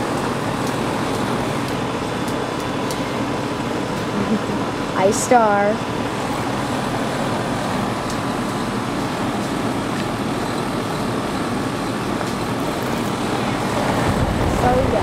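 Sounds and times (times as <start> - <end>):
air conditioner condenser humming: 0.0 - 15.0.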